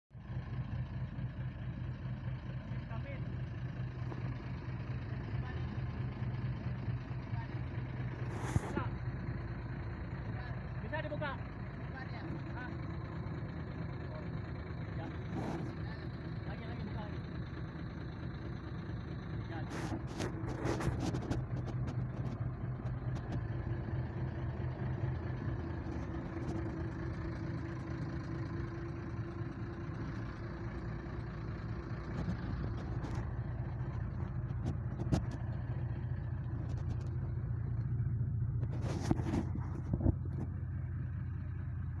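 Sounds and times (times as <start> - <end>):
engine humming: 0.1 - 42.0.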